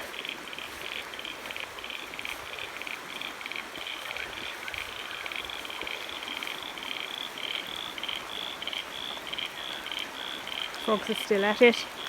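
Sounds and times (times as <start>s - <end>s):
chorus of frogs calling: 0.0s - 12.0s
steady background hiss: 0.0s - 12.0s.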